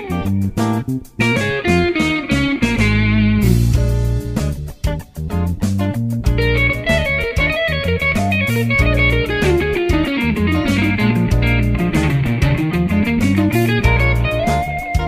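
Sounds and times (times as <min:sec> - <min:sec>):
bass and drums backing track: 0:00.0 - 0:15.0
electric guitar lead lines: 0:00.0 - 0:15.0.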